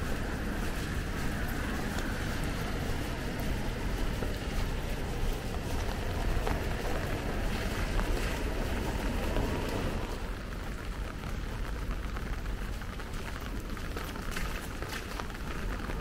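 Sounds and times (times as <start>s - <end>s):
rain: 0.0s - 16.0s
traffic rumble: 0.0s - 16.0s
tyres hissing on wet pavement: 0.0s - 16.0s.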